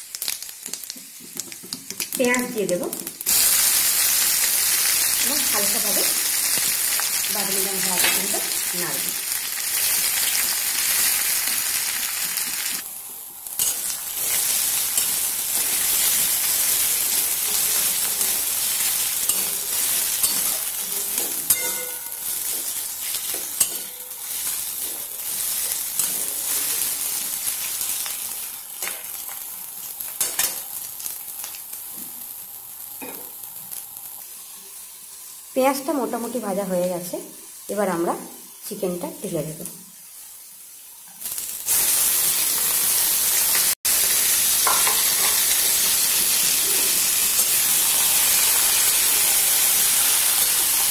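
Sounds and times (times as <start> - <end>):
onions sizzling in oil: 0.0 - 50.9.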